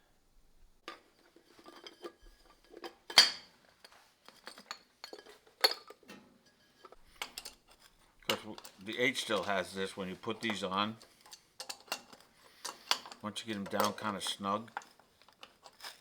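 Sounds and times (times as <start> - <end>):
metal tools clinking: 0.9 - 16.0.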